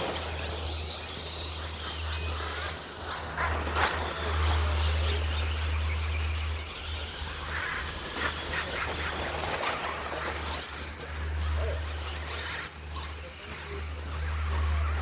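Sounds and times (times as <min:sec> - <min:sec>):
electric rc truck motors whining: 0:00.0 - 0:15.0
steady low hum: 0:00.0 - 0:15.0.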